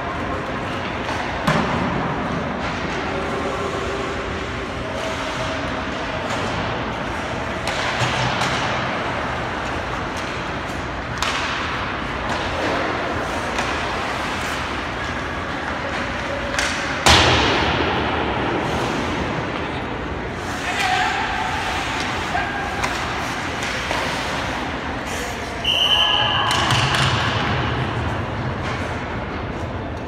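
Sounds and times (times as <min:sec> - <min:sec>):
echoing arena noise: 0:00.0 - 0:30.0
skates on ice: 0:00.0 - 0:30.0.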